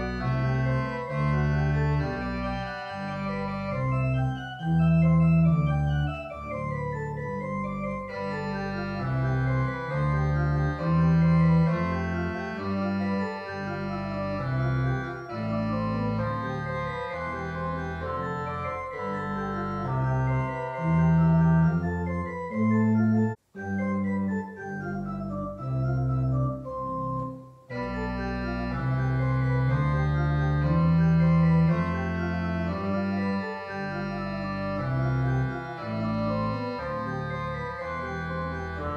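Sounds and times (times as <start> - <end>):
church organ chords: 0.0 - 38.9.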